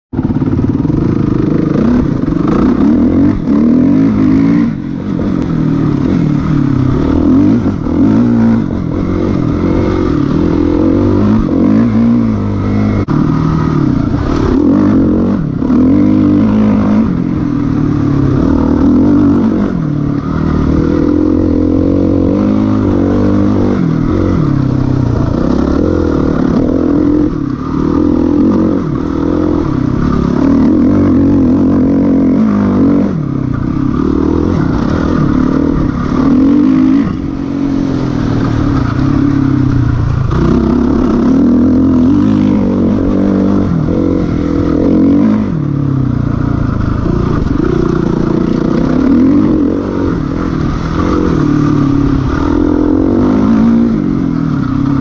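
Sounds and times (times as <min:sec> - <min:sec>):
motocross bike engine revving: 0:00.1 - 0:55.0.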